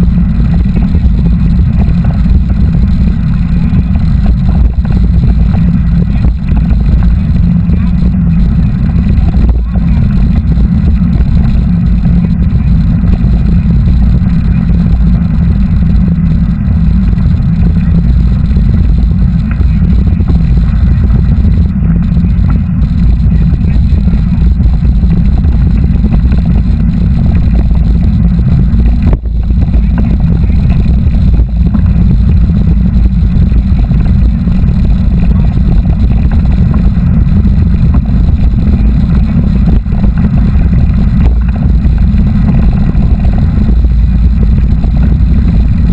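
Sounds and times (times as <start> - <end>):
wind rumble on microphone: 0.0 - 45.9.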